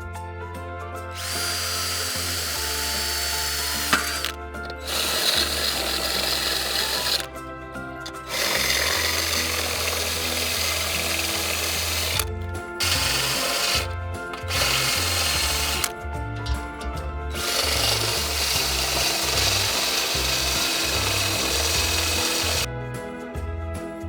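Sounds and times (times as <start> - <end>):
background music: 0.0 - 24.0
hammer drill boring into wall: 1.1 - 22.7.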